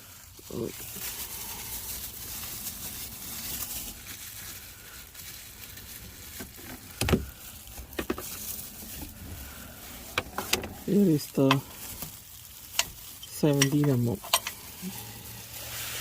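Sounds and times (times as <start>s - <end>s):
plastic rustling and scraping: 0.0s - 16.0s.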